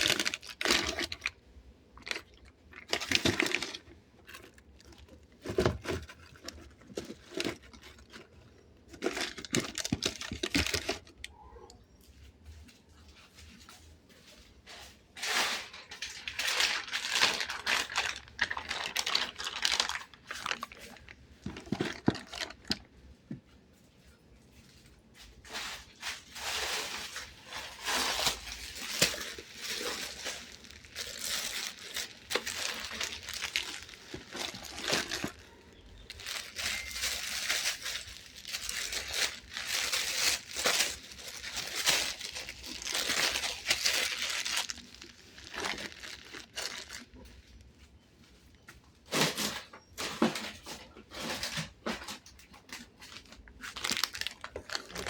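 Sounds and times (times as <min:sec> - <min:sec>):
plastic packaging crinkling: 0:00.0 - 0:55.0.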